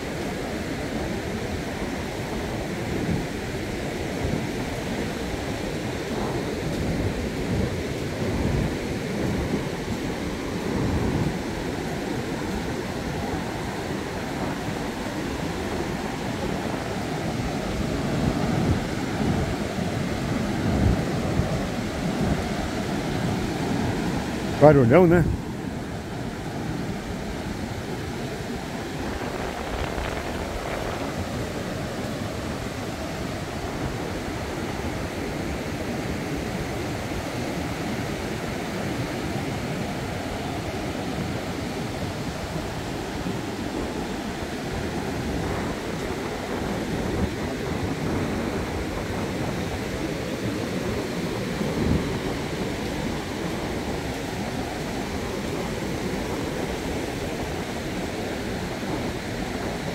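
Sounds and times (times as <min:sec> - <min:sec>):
heavy surf breaking on beach: 0:00.0 - 0:59.9.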